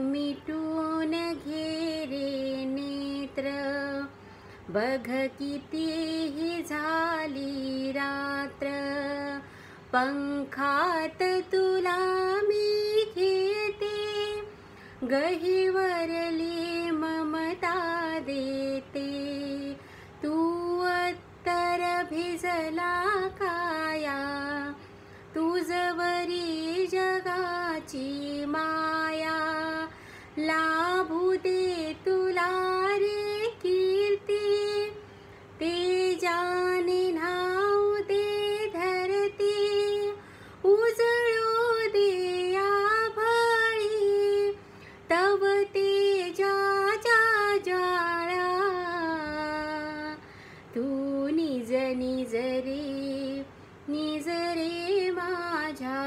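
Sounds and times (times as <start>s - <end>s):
woman singing a lullaby: 0.0s - 56.0s.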